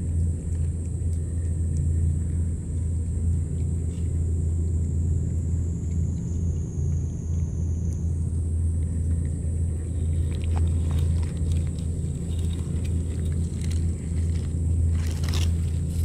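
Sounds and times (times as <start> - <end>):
cat chewing and licking food: 0.0 - 16.0
high whine: 0.0 - 16.0
low motor hum: 0.0 - 16.0.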